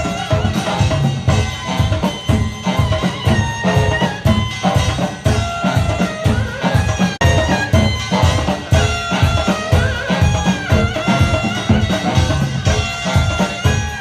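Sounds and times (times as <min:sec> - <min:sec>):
drums with steady beat: 0:00.0 - 0:14.0.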